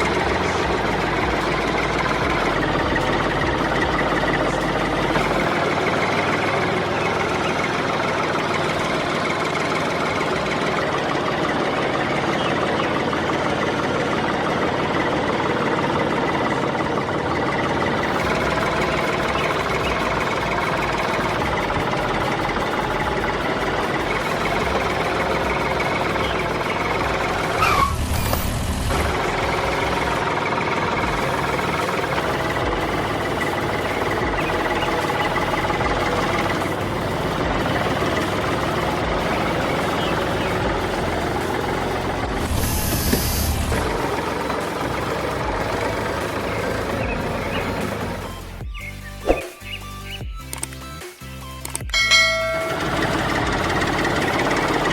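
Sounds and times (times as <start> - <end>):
low surge: 0.0 - 12.7, 13.3 - 48.6
motor running steadily: 0.0 - 49.4, 51.8 - 54.9.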